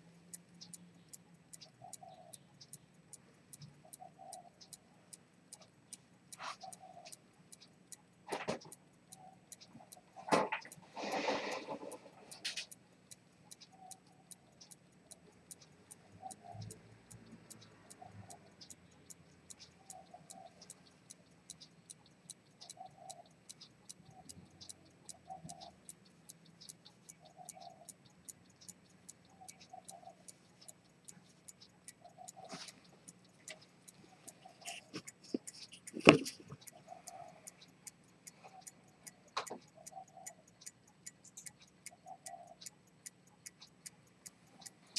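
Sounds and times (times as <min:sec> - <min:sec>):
pocket watch ticking: 0:00.0 - 0:44.9
watch click: 0:00.3 - 0:02.9, 0:03.5 - 0:04.9, 0:05.5 - 0:44.9.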